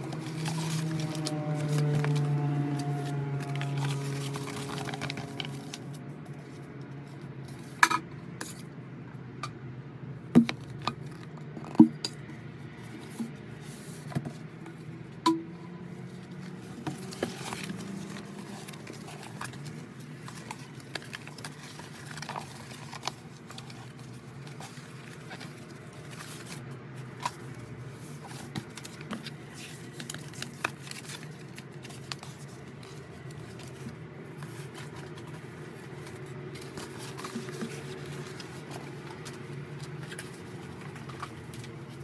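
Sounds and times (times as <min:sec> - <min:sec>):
packaging clicks and rustles: 0:00.0 - 0:08.7, 0:16.0 - 0:42.0.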